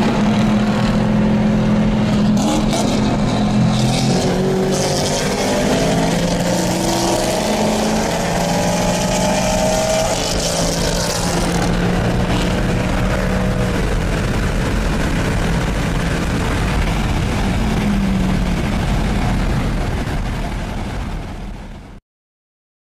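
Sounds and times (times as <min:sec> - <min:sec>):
car engine accelerating: 0:00.0 - 0:21.6.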